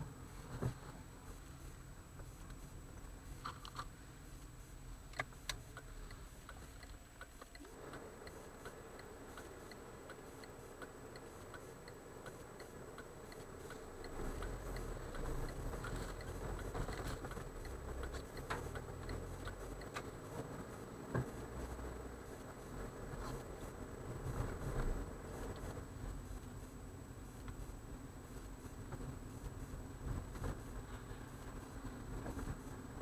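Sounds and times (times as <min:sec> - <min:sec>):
road and engine rumble: 0:00.0 - 0:33.0
turn signal ticking: 0:01.3 - 0:33.0.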